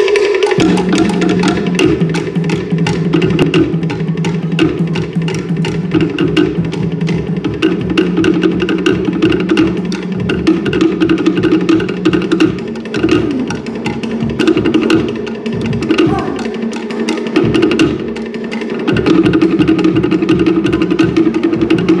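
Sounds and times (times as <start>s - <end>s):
lower-pitched drum: 0.0s - 22.0s
wooden slit drums struck with sticks: 0.0s - 22.0s.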